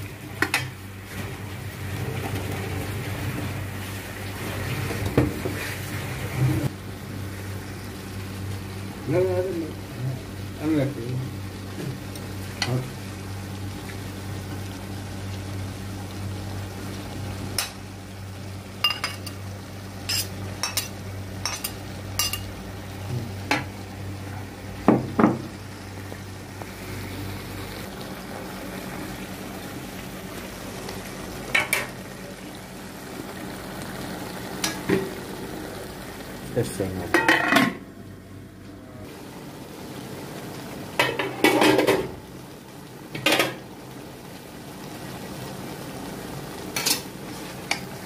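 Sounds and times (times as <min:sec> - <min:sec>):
food sizzling: 0:00.0 - 0:48.0.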